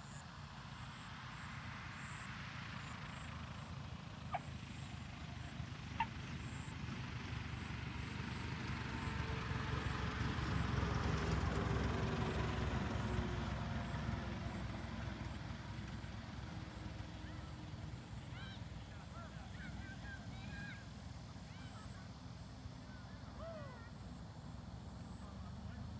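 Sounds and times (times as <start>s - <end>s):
light aircraft engine droning: 0.0s - 25.9s.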